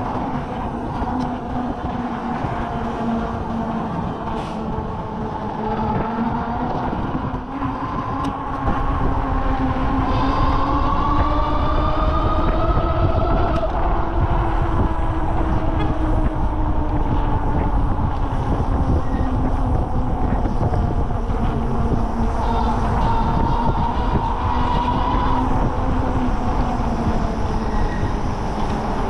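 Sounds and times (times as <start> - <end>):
heavy low rumble: 0.0 - 29.0.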